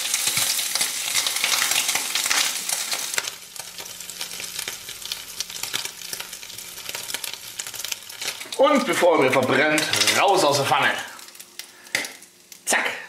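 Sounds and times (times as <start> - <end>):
bacon sizzling in a frying pan: 0.0 - 13.0.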